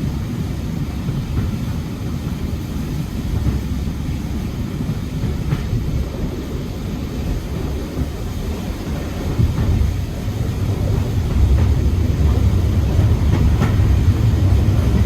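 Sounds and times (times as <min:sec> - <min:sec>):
train coach rumbling on track: 0:00.0 - 0:15.0.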